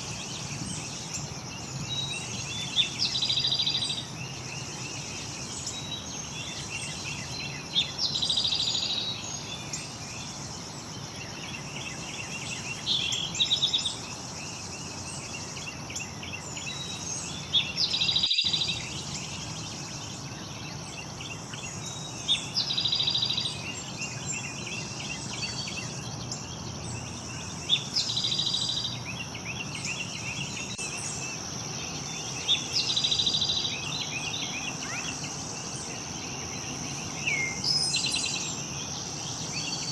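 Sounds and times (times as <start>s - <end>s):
high insect drone: 0.0s - 39.9s
songbird buzzy trill song: 0.0s - 39.9s.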